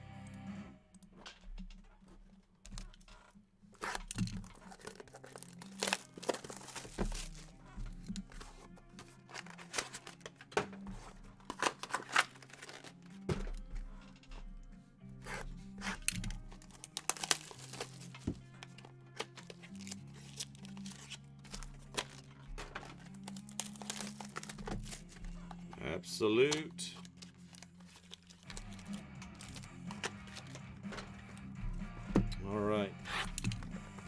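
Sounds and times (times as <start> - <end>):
background music: 0.0 - 34.0
plastic wrappers tearing and crinkling: 2.7 - 14.6, 15.2 - 25.8, 26.4 - 31.7, 33.0 - 33.7.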